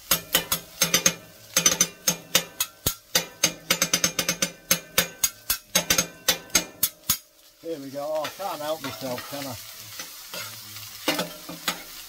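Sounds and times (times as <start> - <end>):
metal spatulas clanking on griddle: 0.0 - 7.3, 8.2 - 12.0.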